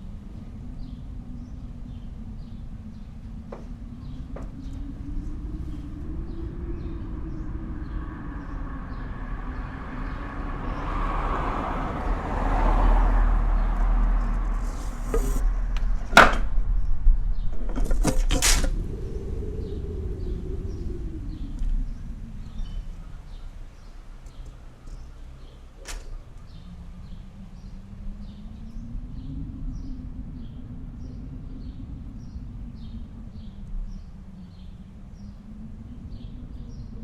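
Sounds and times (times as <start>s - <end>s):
low hum: 0.0s - 37.0s
rumble of passing vehicle: 0.0s - 37.0s.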